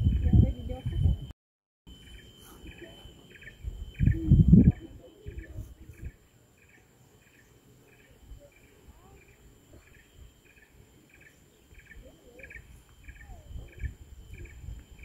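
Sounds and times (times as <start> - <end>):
insects chirping in pulses: 0.0 - 1.3, 1.9 - 15.0
high-pitched insect drone: 1.9 - 15.0.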